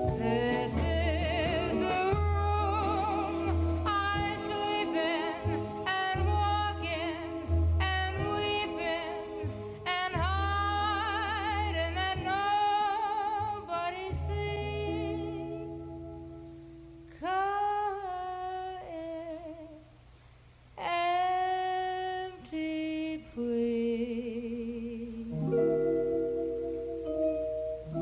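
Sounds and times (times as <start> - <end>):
woman singing wordless notes: 0.0 - 16.1, 17.1 - 20.0, 20.8 - 26.4
soft accompaniment: 0.0 - 19.8, 20.8 - 28.0.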